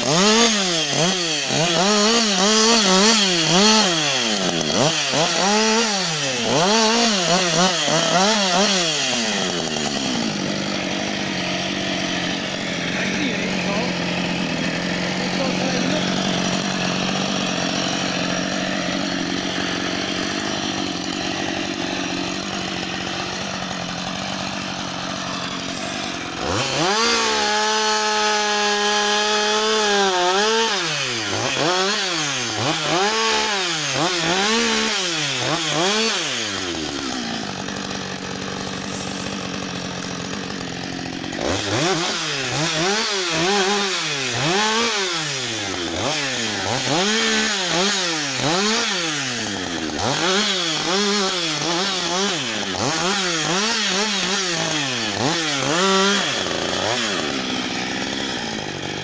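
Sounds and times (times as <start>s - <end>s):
chainsaw revving and cutting: 0.0s - 59.0s.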